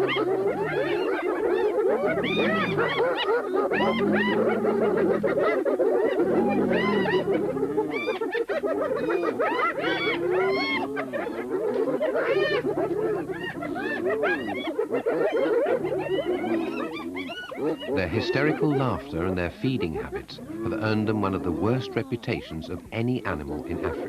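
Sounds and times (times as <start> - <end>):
hyenas giggling: 0.0 - 24.0.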